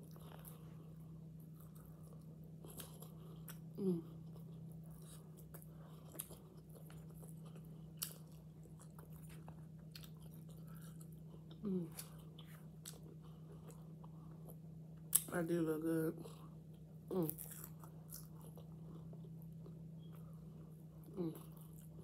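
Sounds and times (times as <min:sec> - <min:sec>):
person chewing with wet mouth sounds: 0:00.0 - 0:15.3, 0:16.2 - 0:22.0
low hum: 0:00.0 - 0:22.0.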